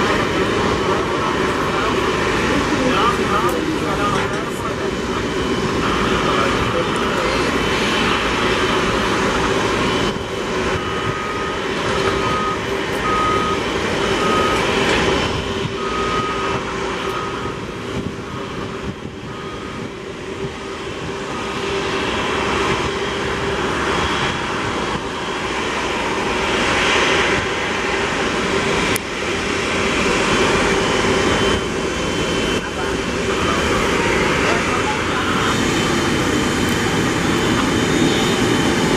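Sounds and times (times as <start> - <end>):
reversing beeper beeps: 0.0 - 8.8, 9.8 - 24.6, 30.0 - 38.9
jet engines whine and rush: 0.0 - 38.9.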